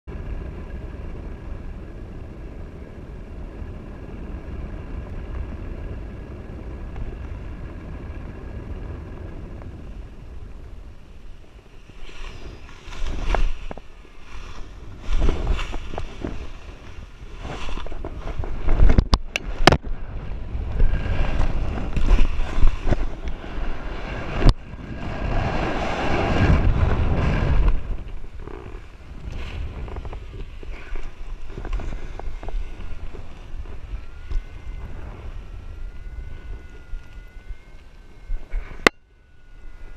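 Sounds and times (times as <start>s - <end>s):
wind rushing over microphone: 0.1s - 39.9s.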